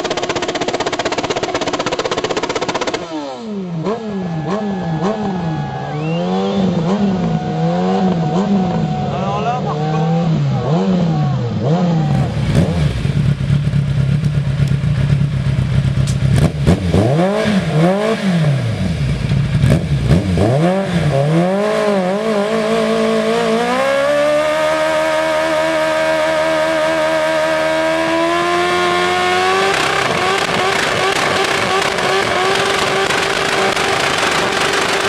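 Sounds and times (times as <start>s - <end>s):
engine revving with loud exhaust: 0.0s - 35.0s.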